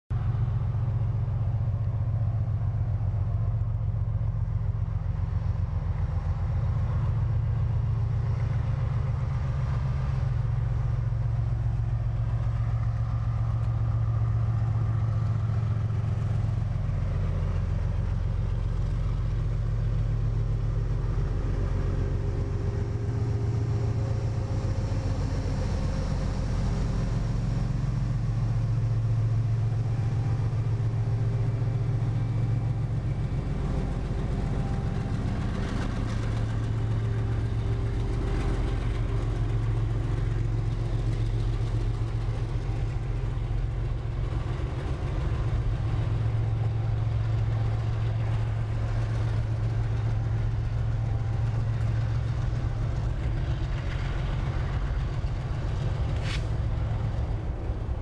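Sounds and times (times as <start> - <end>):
diesel locomotive engines rumbling: 0.1 - 58.0.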